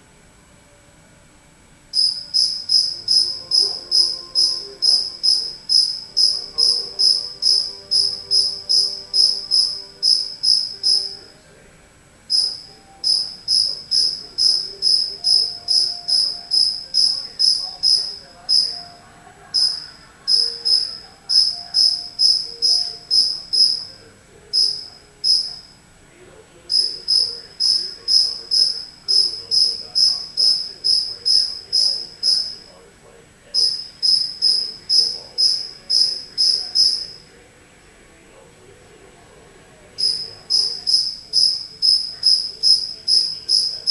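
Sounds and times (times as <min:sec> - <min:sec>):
cricket chirping: 0:01.9 - 0:11.4, 0:12.3 - 0:25.8, 0:26.6 - 0:32.8, 0:33.5 - 0:37.3, 0:40.0 - 0:43.9.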